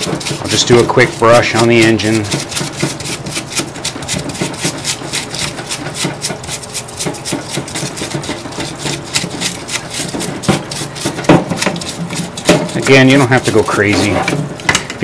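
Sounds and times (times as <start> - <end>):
stiff brush scrubbing in solvent: 0.0 - 14.6.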